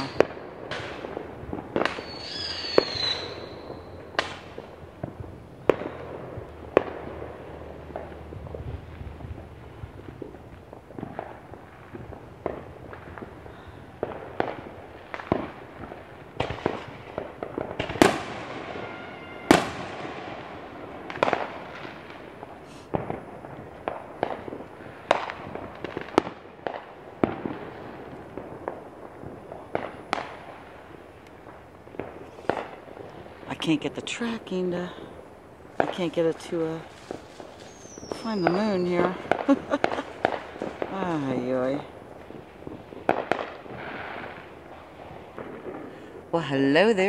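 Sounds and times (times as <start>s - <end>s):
fireworks bangs and pops: 0.0s - 47.0s
loud fireworks booms with echo: 0.0s - 47.0s.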